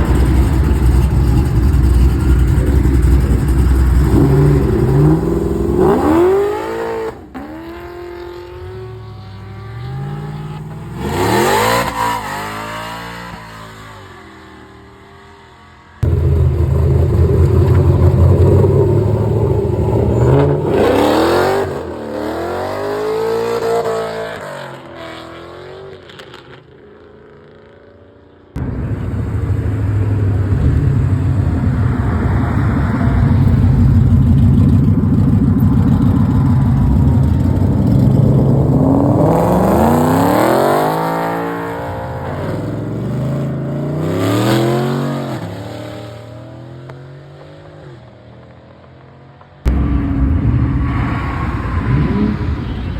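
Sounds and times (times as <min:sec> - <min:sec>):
car engines revving and accelerating: 0:00.0 - 0:27.8, 0:28.5 - 0:52.9.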